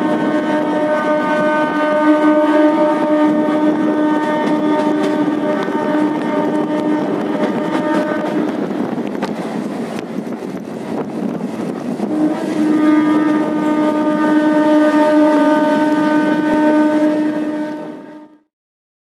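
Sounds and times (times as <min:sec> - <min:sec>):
train horn blast: 0:00.0 - 0:09.0, 0:12.0 - 0:18.5
wind noise: 0:00.0 - 0:18.2
train rumbling: 0:00.0 - 0:18.3.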